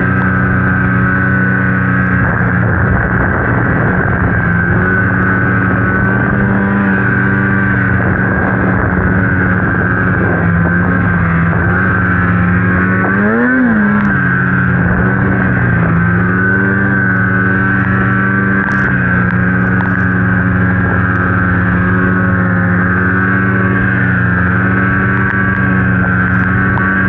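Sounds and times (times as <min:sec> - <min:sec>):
snowmobile engine revving: 0:00.0 - 0:27.0.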